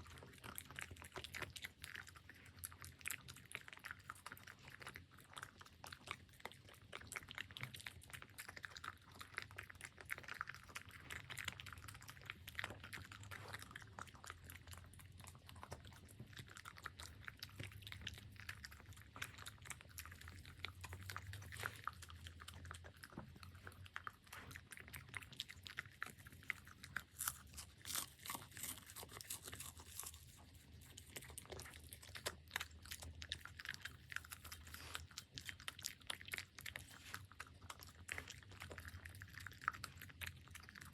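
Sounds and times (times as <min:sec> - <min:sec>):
puppy chewing food: 0:00.0 - 0:40.9.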